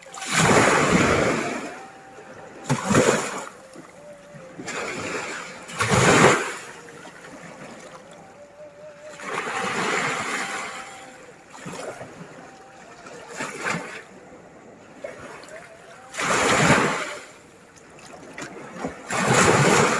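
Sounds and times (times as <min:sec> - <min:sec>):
sea waves breaking: 0:00.0 - 0:19.9.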